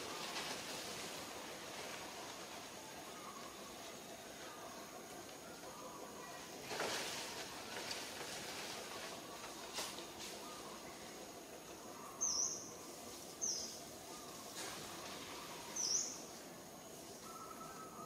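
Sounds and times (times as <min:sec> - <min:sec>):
faint outdoor background hiss: 0:00.0 - 0:18.0.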